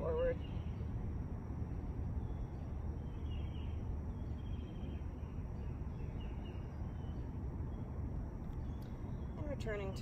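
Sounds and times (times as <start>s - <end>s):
faint high chirping calls: 0.0s - 1.0s, 1.6s - 10.0s
steady low rumble: 0.0s - 10.0s.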